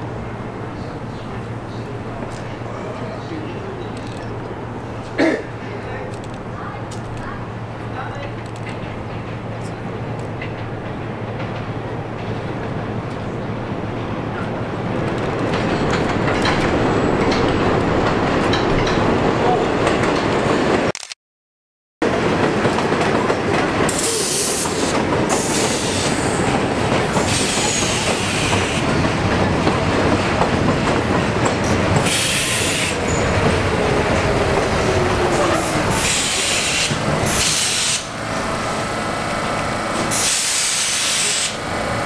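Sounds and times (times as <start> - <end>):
subway train rumbling and clattering: 0.0 - 20.9, 22.0 - 42.0.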